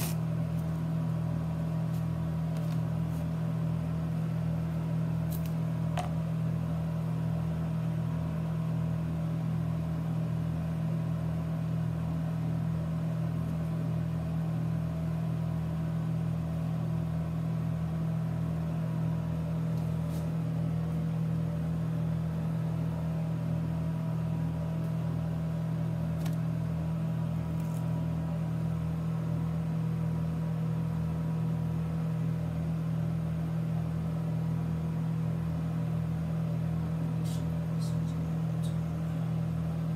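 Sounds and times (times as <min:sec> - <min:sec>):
low mechanical hum with throb: 0:00.0 - 0:39.9.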